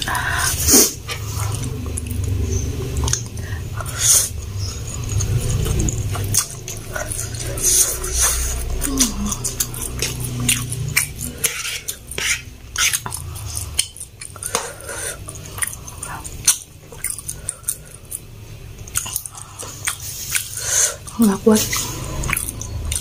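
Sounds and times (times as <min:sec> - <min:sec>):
chewing and slurping noodles: 0:00.0 - 0:23.0
wet mouth clicks: 0:01.1 - 0:23.0.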